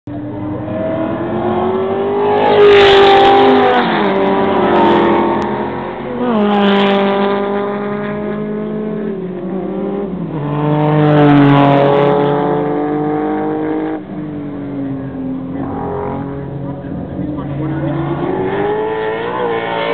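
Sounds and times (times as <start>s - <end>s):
race cars passing at speed: 0.1s - 19.9s.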